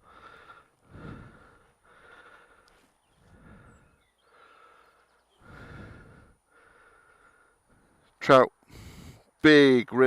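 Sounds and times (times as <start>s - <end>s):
man breathing: 0.0s - 9.4s.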